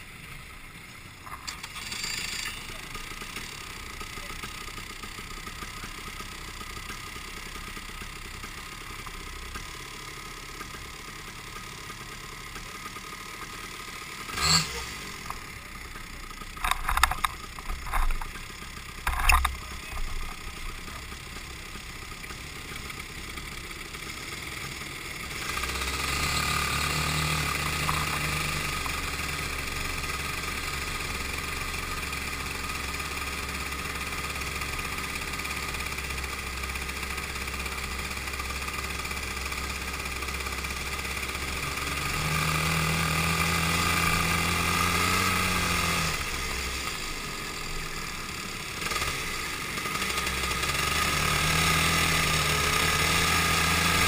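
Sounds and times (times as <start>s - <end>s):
go-kart engines droning: 0.0s - 54.0s.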